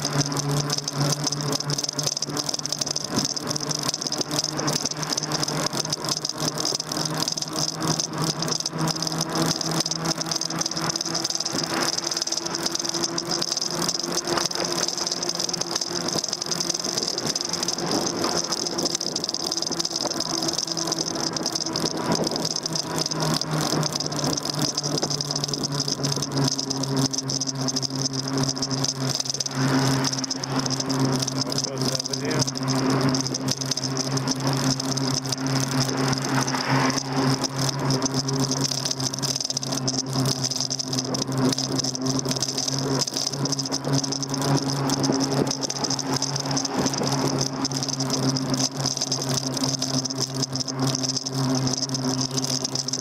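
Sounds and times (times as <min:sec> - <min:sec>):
electric bike rattling: 0:00.0 - 0:53.0
electric motor whine: 0:00.0 - 0:53.0.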